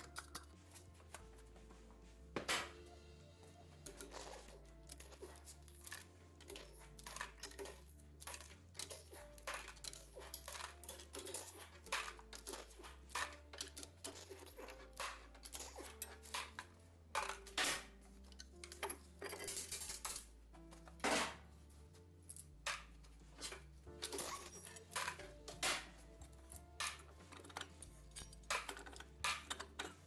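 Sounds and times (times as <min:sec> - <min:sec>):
hand tools clicking and clanking: 0:00.0 - 0:01.4, 0:03.6 - 0:21.5, 0:22.2 - 0:30.0.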